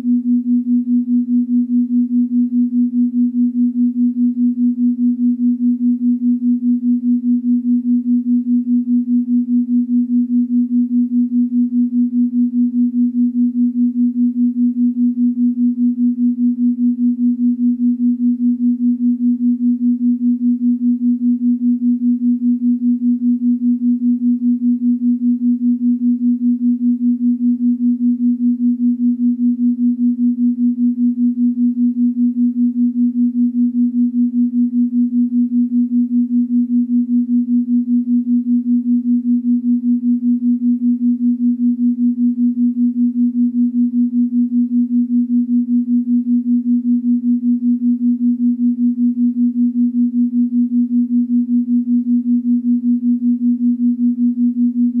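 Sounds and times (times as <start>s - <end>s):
pulsing low electronic tone: 0.0s - 55.0s.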